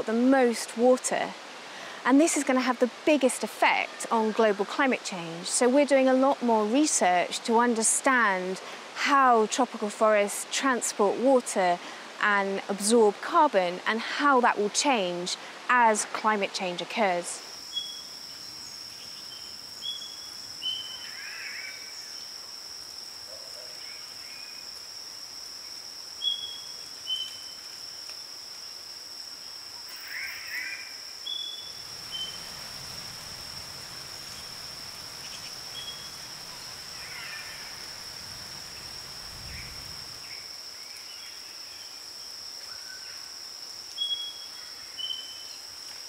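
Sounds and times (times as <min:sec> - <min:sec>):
insect drone: 0:00.0 - 0:46.0.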